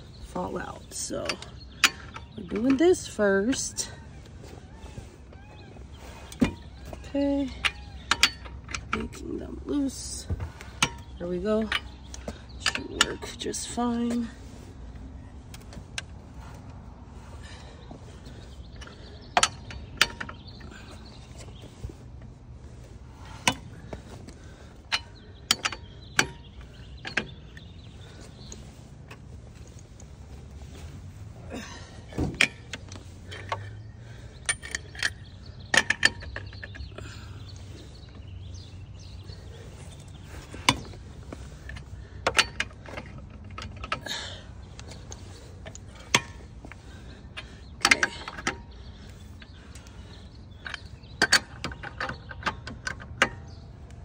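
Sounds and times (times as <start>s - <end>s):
lug wrench clinking on nuts: 0.2s - 4.0s, 6.2s - 14.4s, 17.5s - 22.0s, 23.1s - 29.8s, 31.6s - 54.0s.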